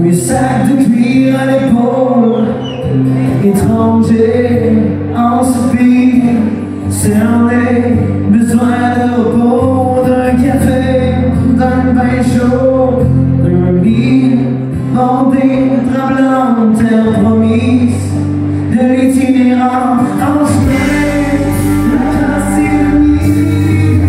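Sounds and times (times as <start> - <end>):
live country band: 0.0 - 24.0
man singing: 0.0 - 24.0.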